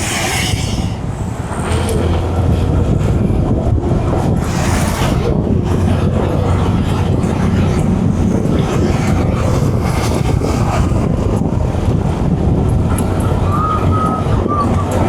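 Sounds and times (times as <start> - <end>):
vehicle rushing noise: 0.0 - 15.0.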